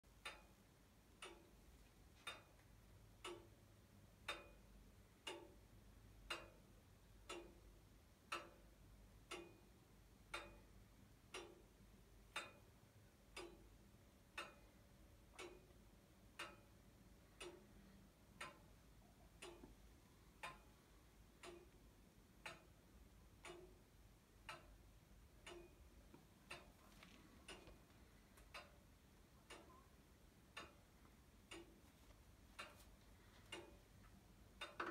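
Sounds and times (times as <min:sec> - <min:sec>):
clock ticking: 0:00.1 - 0:34.9.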